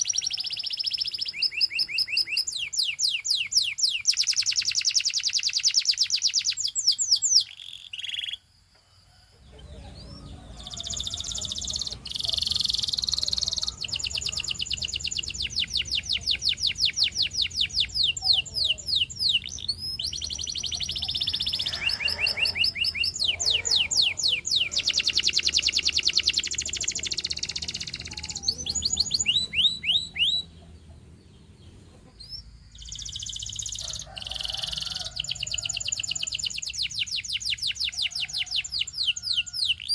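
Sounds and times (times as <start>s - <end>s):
canary singing trills: 0.0s - 8.5s, 9.1s - 39.9s.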